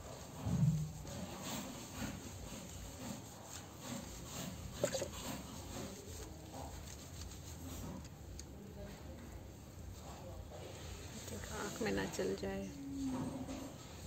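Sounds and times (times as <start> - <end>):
hands rubbing wet fur: 0.0 - 12.4.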